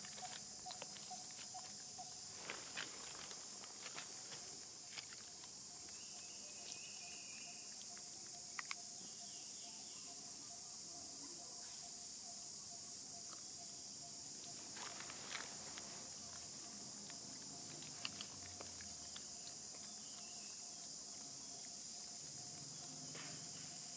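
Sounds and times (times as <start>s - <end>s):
high-pitched insect chorus: 0.0s - 23.9s.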